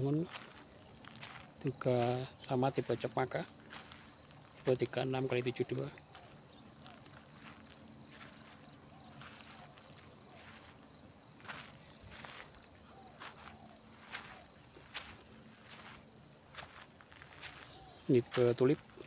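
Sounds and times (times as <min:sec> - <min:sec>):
footsteps on soil and grass: 0:00.0 - 0:19.0
insects chirring: 0:00.0 - 0:19.0.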